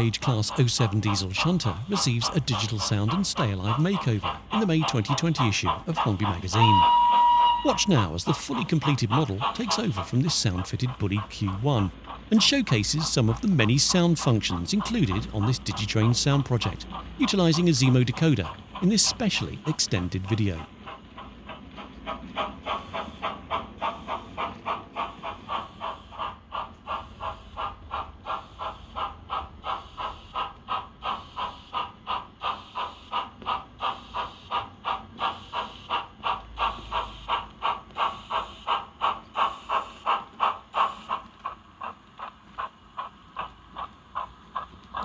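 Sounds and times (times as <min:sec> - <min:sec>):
model steam locomotive chuffs: 0:00.0 - 0:45.0.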